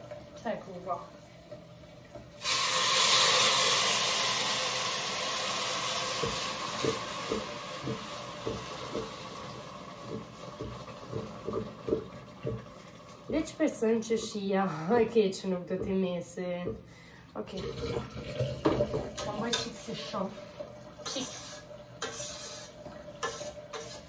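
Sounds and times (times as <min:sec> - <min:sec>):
water running into metal pot: 0:00.0 - 0:14.5, 0:16.8 - 0:24.0.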